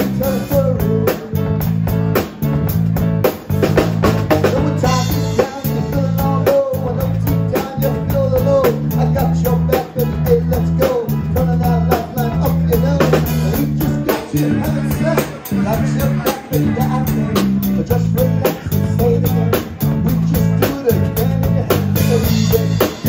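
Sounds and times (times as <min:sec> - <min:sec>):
man singing into microphone: 0:00.0 - 0:01.4, 0:04.4 - 0:23.0
bass guitar: 0:00.0 - 0:23.0
drum kit beat: 0:00.0 - 0:23.0
electric guitar: 0:00.0 - 0:23.0.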